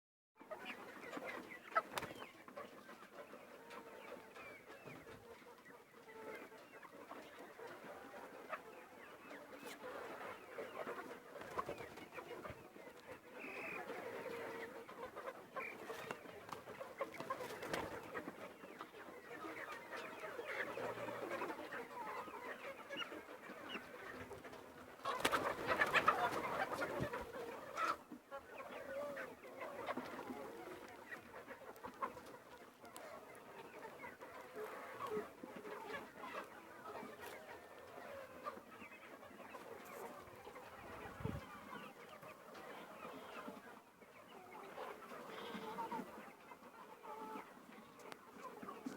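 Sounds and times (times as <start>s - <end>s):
chickens clucking: 0.4s - 48.9s.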